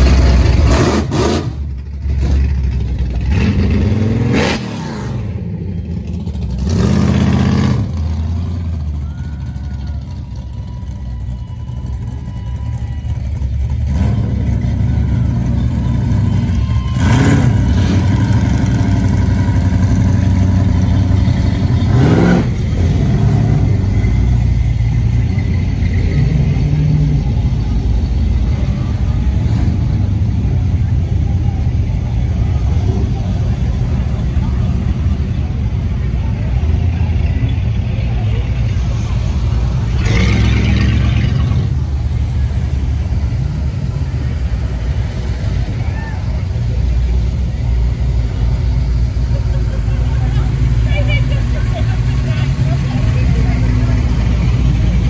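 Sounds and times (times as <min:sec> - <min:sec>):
car engines revving: 0:00.0 - 0:55.0
cars driving past: 0:00.0 - 0:55.0.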